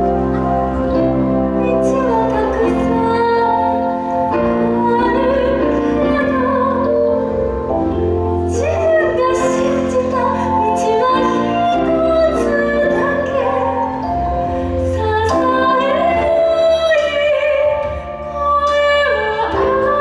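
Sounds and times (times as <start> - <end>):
instrumental accompaniment: 0.0 - 20.0
woman singing operatically: 1.6 - 3.9, 4.5 - 7.9, 8.5 - 14.1, 14.8 - 20.0.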